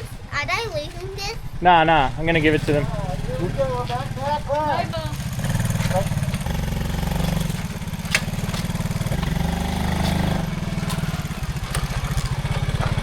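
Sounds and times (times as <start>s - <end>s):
small engine idling: 1.4s - 13.0s.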